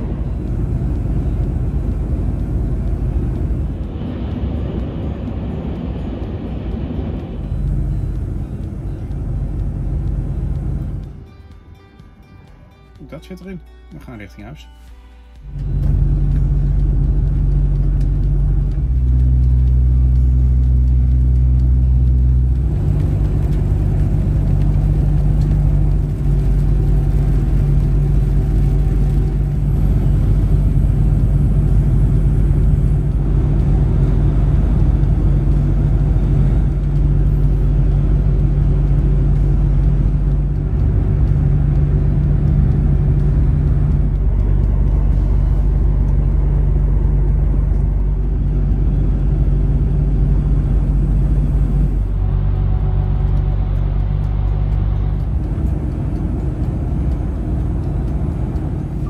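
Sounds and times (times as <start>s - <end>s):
truck diesel engine running: 0.0s - 13.5s, 15.0s - 59.0s.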